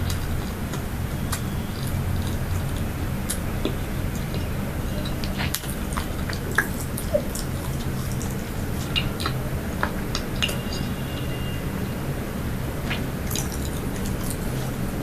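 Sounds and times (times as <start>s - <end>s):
wet mouth clicks and smacks: 0.0s - 10.9s, 12.9s - 14.8s
chewing soft food: 0.0s - 11.4s, 12.9s - 15.0s.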